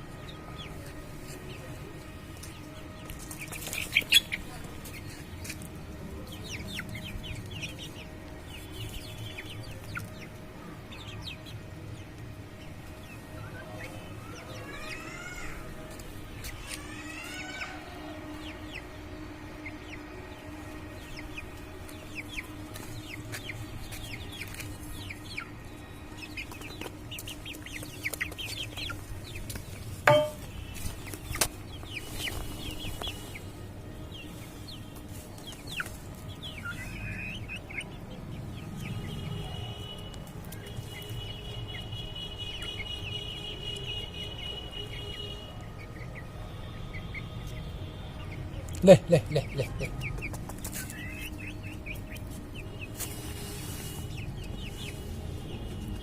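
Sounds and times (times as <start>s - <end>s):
chickens clucking: 0.2s - 41.9s, 43.5s - 56.0s.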